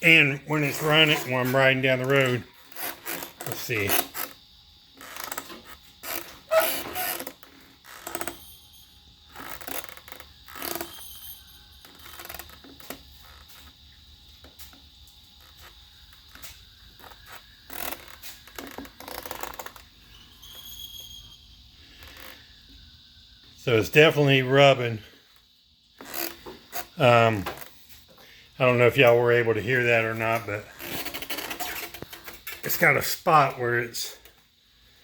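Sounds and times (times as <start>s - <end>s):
brake scraping: 0.0s - 22.9s, 23.8s - 34.2s.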